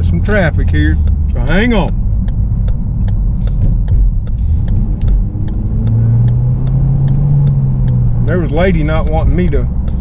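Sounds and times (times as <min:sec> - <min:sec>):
car engine and road rumble: 0:00.0 - 0:10.0
turn signal clicking: 0:00.0 - 0:10.0.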